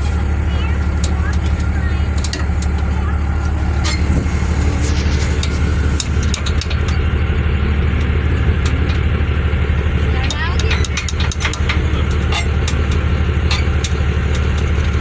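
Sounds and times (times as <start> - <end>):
clicks and rattles: 0.0 - 15.0
engine throbbing: 0.0 - 15.0.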